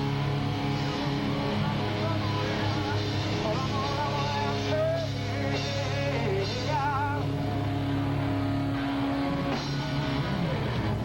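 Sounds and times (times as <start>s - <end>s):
electric guitar bent notes: 0.0s - 11.0s
live rock band playing: 0.0s - 11.0s.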